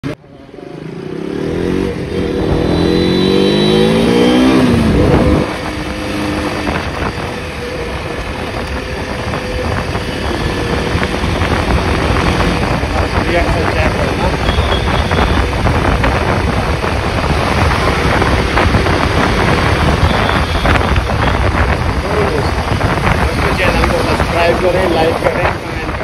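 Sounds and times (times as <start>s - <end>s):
road and wind noise: 0.0s - 26.0s
motorcycle engine accelerating: 0.6s - 26.0s.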